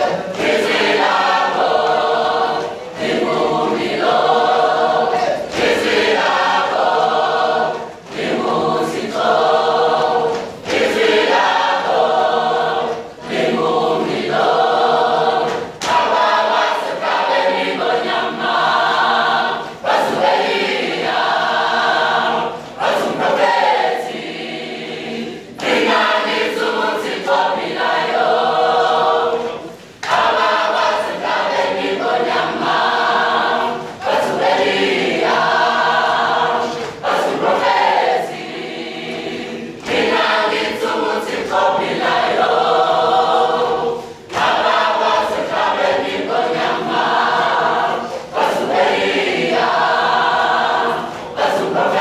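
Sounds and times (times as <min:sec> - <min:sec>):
choir singing unaccompanied: 0:00.0 - 0:52.0.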